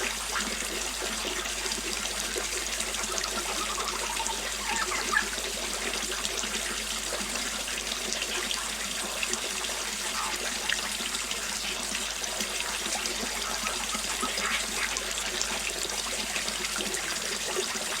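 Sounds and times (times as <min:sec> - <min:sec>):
small waterfall splashing: 0:00.0 - 0:18.0.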